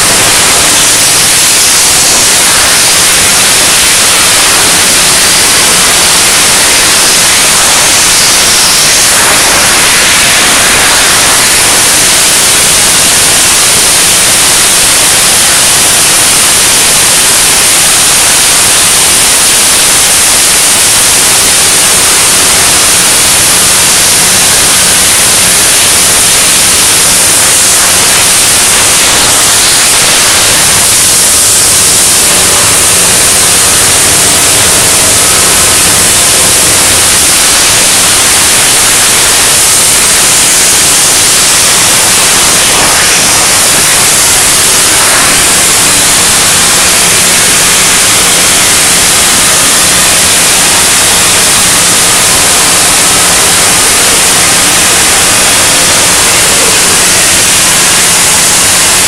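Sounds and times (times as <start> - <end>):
cutting torches hissing: 0.0 - 59.0.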